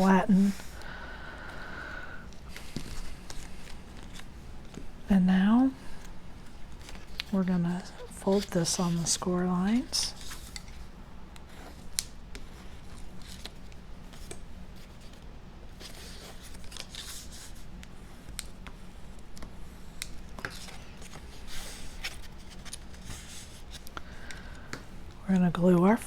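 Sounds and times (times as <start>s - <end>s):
paper rustling and creasing: 2.3s - 5.0s, 5.7s - 24.6s.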